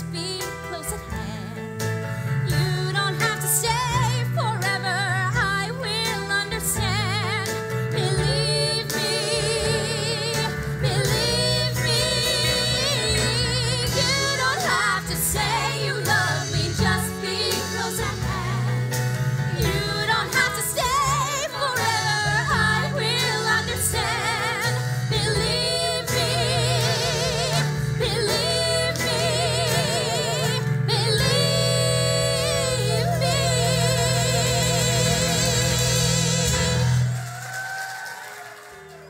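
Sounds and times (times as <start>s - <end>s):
live band with bass line: 0.0s - 37.7s
women singing pop song: 2.5s - 37.2s.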